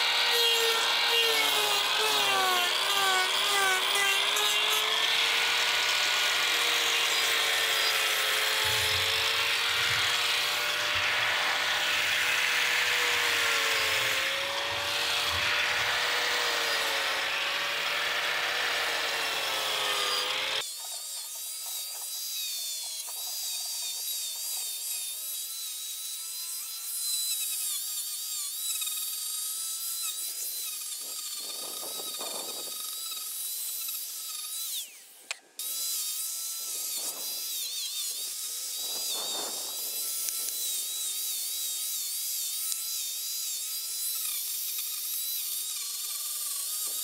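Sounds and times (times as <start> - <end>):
angle grinder grinding wood: 0.0 - 47.0
quieter high-whining grinder: 0.0 - 47.0.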